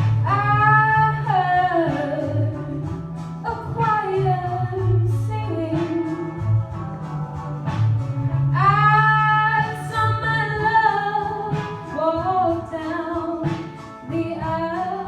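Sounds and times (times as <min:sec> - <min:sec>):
woman singing: 0:00.0 - 0:06.6, 0:08.6 - 0:15.0
instrumental accompaniment: 0:00.0 - 0:15.0.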